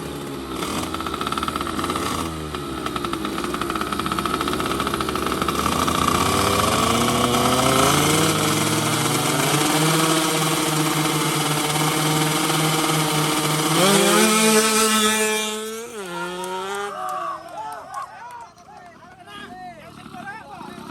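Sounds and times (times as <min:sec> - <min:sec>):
racing motorcycle engine at full throttle: 0:00.0 - 0:17.0, 0:18.9 - 0:20.9.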